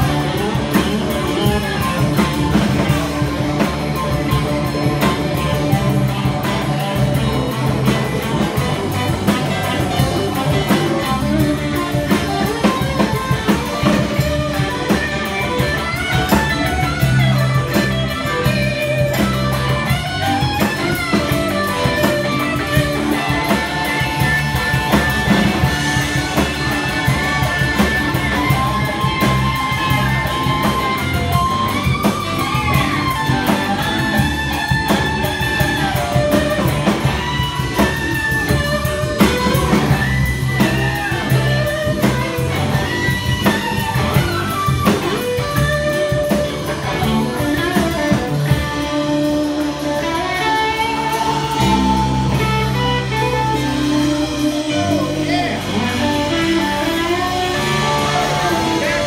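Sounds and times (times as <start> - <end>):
drum kit: 0.0 - 59.0
electric guitar lead: 0.0 - 59.0
steady low notes: 0.0 - 59.0.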